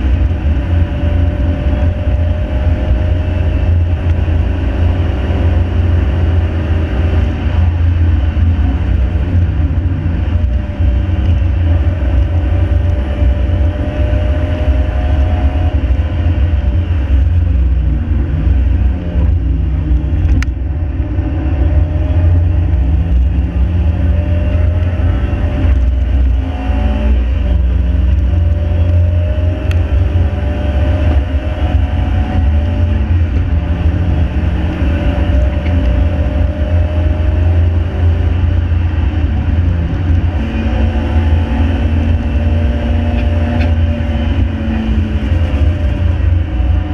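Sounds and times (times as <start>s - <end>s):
car engine revving: 0.0s - 46.9s
road and wind noise rumble: 0.0s - 46.9s.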